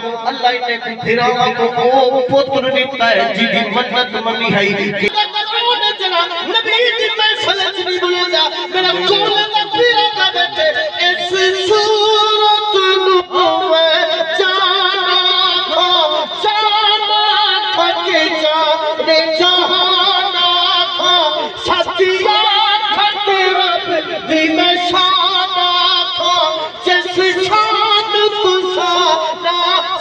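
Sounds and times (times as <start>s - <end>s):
man singing through microphone: 0.0s - 30.0s.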